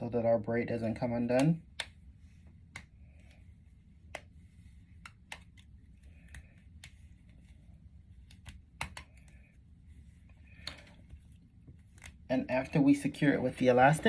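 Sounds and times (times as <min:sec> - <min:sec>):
hands handling wig hair: 0:00.8 - 0:14.0.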